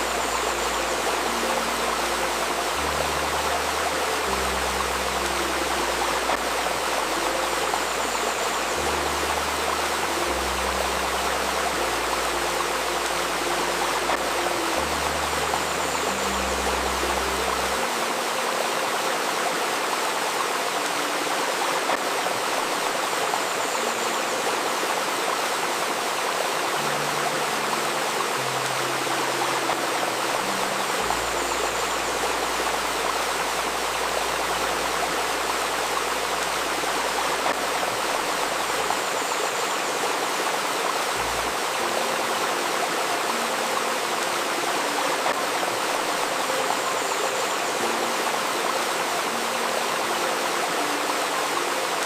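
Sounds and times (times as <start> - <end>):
river babbling: 0.0 - 52.0.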